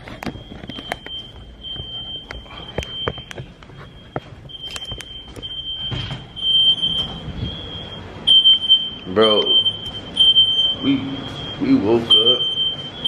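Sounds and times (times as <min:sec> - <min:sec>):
smoke alarm beeping: 0:00.0 - 0:13.0.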